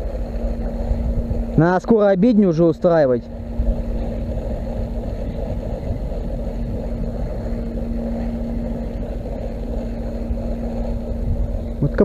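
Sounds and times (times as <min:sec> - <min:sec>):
steady low hum: 0:00.0 - 0:12.0
wind rumbling on microphone: 0:00.0 - 0:12.0.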